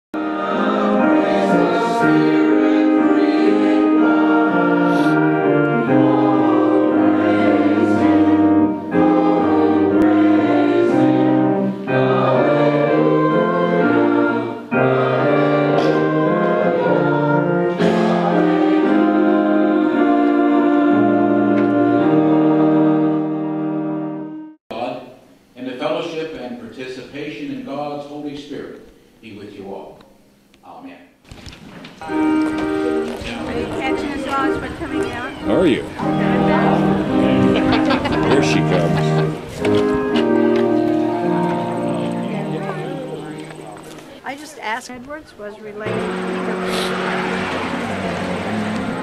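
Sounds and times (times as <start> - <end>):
congregation singing a hymn: 0.2 - 24.3, 32.0 - 44.2, 45.8 - 49.0.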